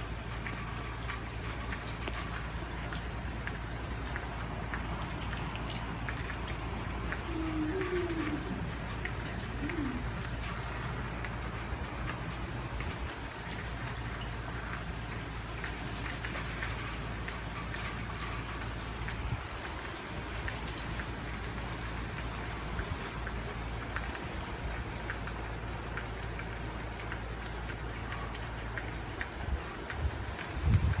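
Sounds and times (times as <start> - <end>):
raindrops pattering: 0.0 - 31.0.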